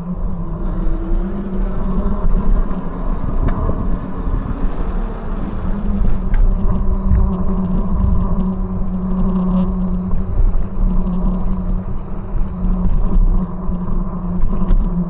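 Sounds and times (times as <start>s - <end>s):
electric motor hum: 0.0s - 15.0s
wind rumble on microphone: 0.0s - 15.0s.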